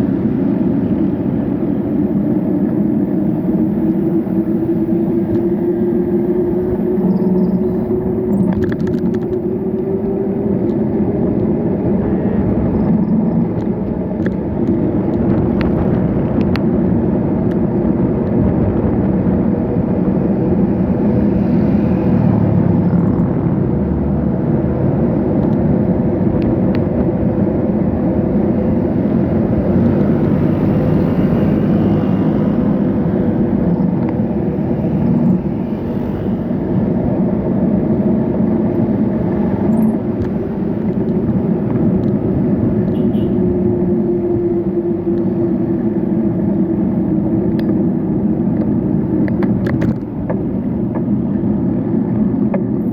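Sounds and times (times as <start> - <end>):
motor traffic: 0.0 - 52.9
road noise rumble: 0.0 - 52.9.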